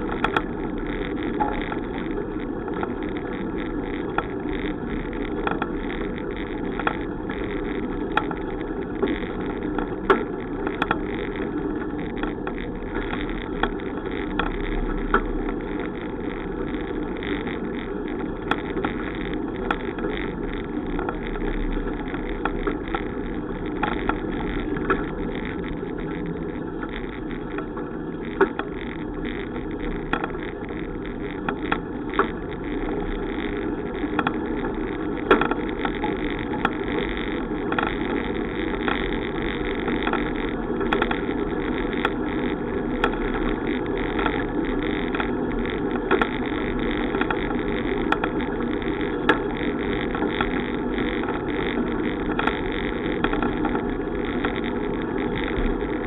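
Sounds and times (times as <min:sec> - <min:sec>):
bicycle rolling: 0:00.0 - 0:56.0.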